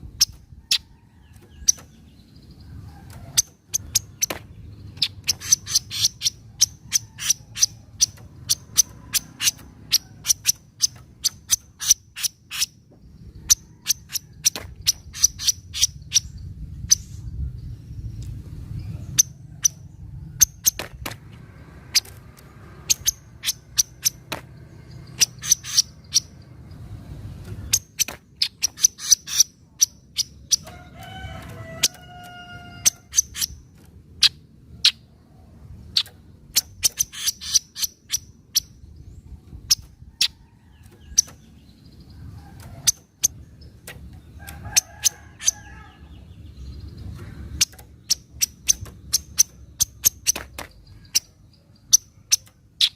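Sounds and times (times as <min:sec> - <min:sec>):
bird chattering: 0:00.0 - 0:17.4, 0:22.8 - 0:26.6, 0:27.6 - 0:30.9, 0:32.6 - 0:35.2, 0:35.8 - 0:52.9.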